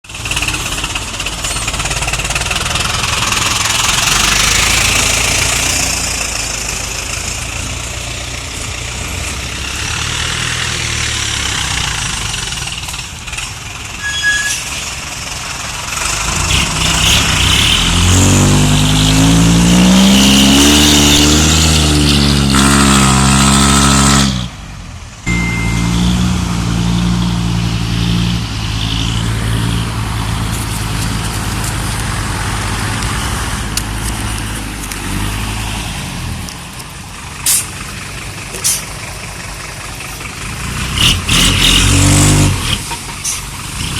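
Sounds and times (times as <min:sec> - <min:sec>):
road and wind noise: 0:00.0 - 0:43.9
truck engine running: 0:00.0 - 0:43.9.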